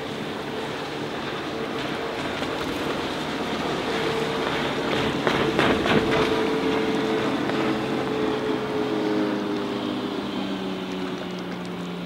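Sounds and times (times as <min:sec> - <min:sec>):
boat engine droning: 0:00.0 - 0:12.0
wind and water noise: 0:00.0 - 0:12.0.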